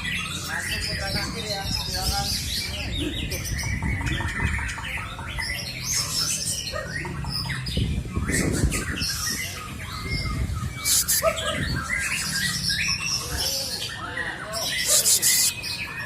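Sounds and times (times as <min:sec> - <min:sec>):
bird giving harsh calls and chirps: 0:00.0 - 0:16.0.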